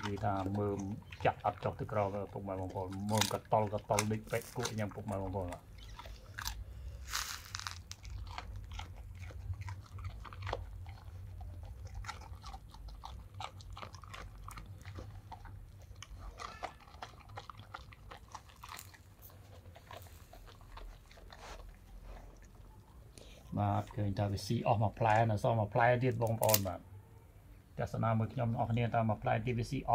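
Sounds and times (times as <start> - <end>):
dog crunching carrot: 0.0 - 25.3, 26.1 - 26.8.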